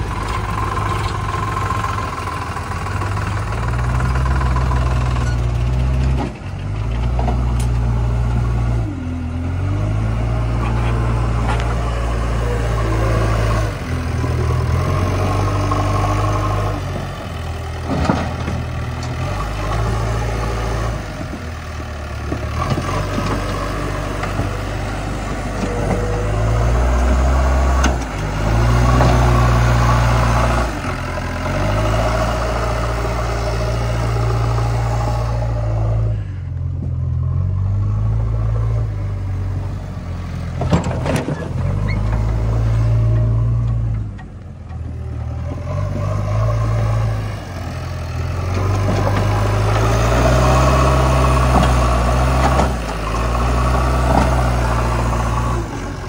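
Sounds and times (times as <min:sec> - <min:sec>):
digger diesel engine revving: 0:00.0 - 0:56.0
tractor diesel engine running: 0:00.0 - 0:56.0.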